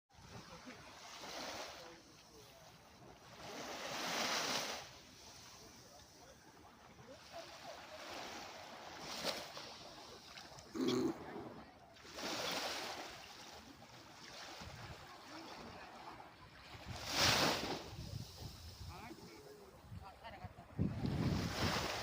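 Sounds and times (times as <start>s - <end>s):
sea waves washing onto beach: 0.2s - 22.0s.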